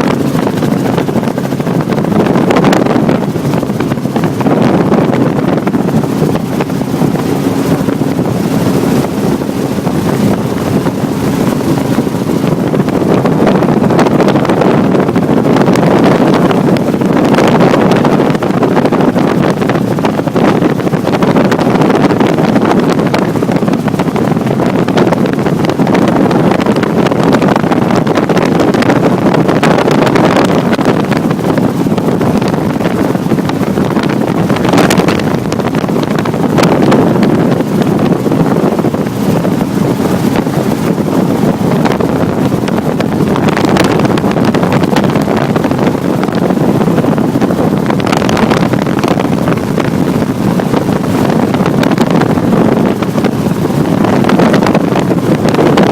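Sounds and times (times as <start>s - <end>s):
helicopter rotor and engine noise: 0.0s - 55.9s
wind buffeting microphone: 0.0s - 55.9s.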